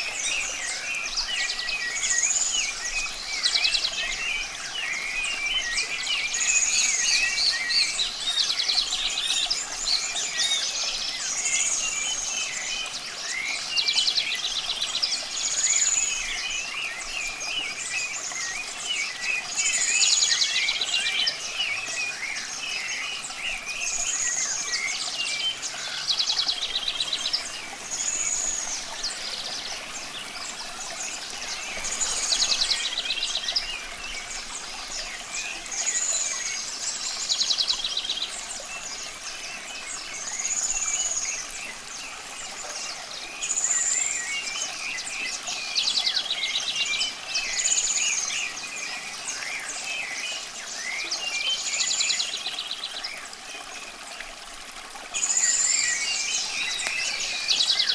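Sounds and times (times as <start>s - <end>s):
faint running water hiss: 0.0s - 57.9s
songbirds chirping: 0.0s - 57.9s.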